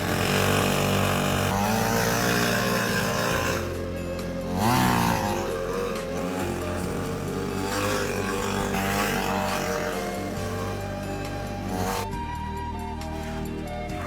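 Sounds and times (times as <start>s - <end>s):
chainsaw engine cutting ice: 0.0s - 14.0s.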